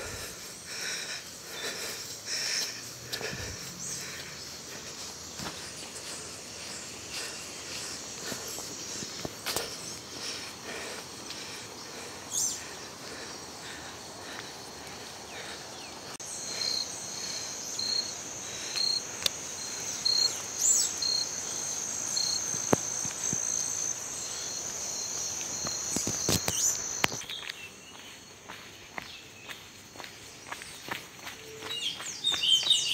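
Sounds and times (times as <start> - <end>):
crickets chirping: 0.0 - 32.9.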